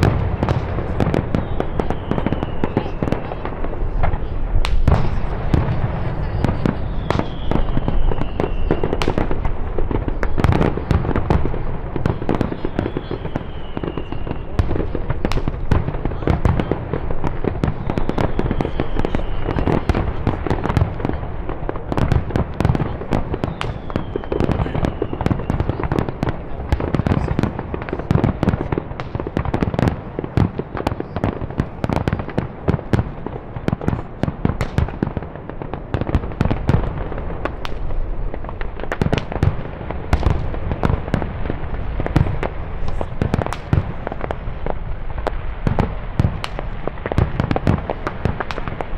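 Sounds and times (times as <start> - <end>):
fireworks and firecracker bangs: 0.0 - 48.9.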